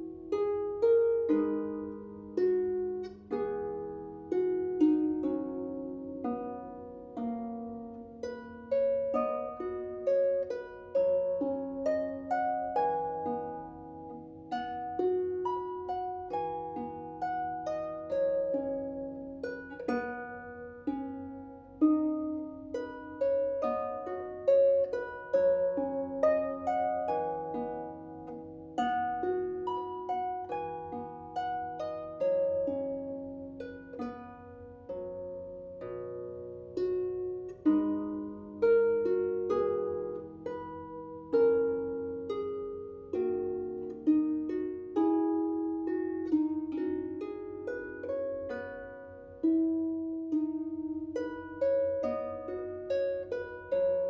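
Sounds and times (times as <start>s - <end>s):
harp plucked notes and chords: 0.0s - 54.0s.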